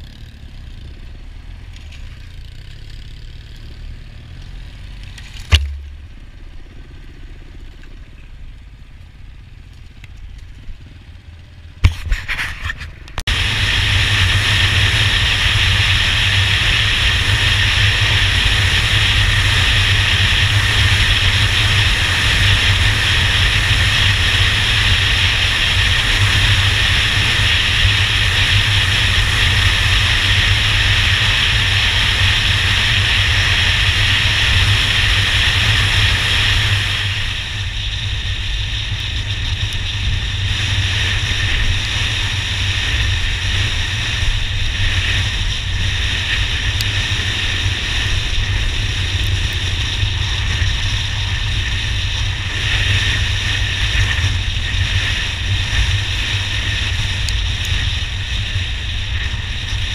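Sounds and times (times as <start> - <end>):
motorcycle engine: 0.0 - 59.9.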